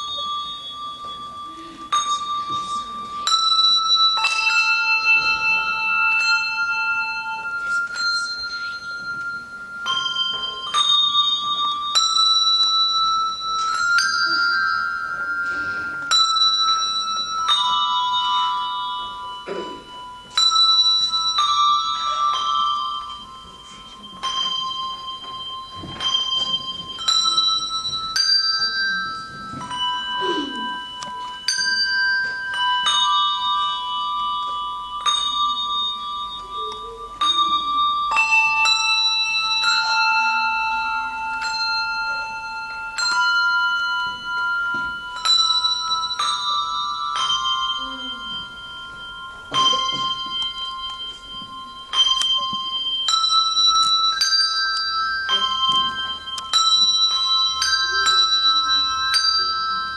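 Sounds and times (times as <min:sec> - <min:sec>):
handbell choir playing: 0:00.0 - 0:59.9.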